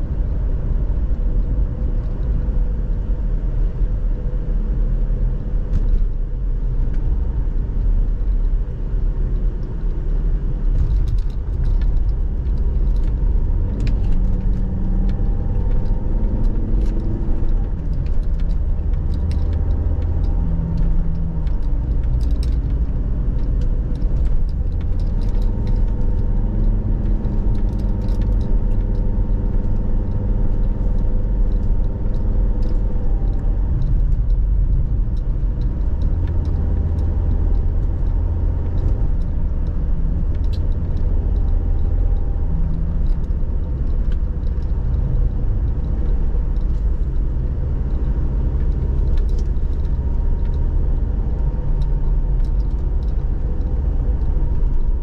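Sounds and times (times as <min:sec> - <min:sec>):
car engine and tyre rumble: 0:00.0 - 0:55.0
small clicks and rattles: 0:10.7 - 0:55.0.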